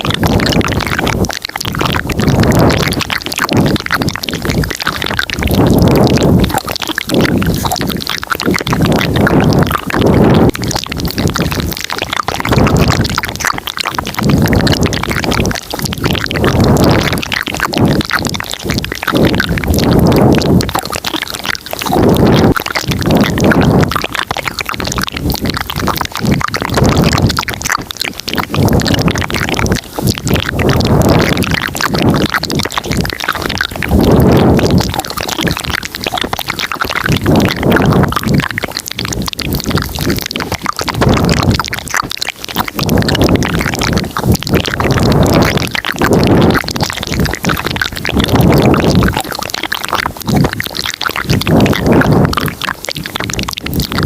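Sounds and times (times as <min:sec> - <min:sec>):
wet mouth clicks and smacks: 0:00.0 - 0:54.0
deep mouth sound swells: 0:00.2 - 0:54.0.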